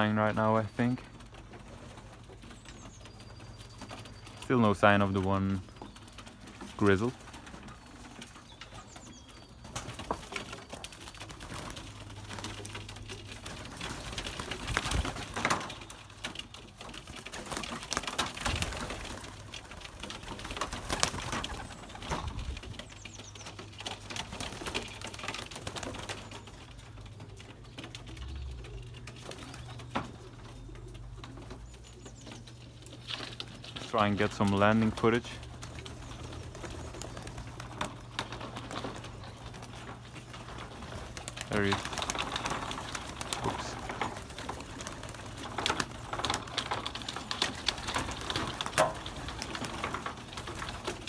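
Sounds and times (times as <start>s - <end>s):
pigeons cooing: 0.0s - 51.0s
wings flapping and rustling: 0.0s - 51.0s.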